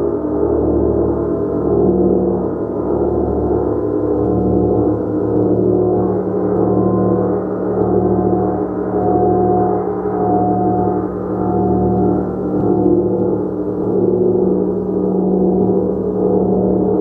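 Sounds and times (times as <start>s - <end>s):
gong resonating: 0.0s - 17.0s.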